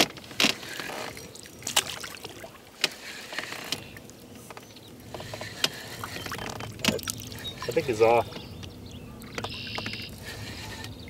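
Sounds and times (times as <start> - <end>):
gear knocking in a boat: 0.0 - 11.0
hiss of water and wind: 0.1 - 11.0.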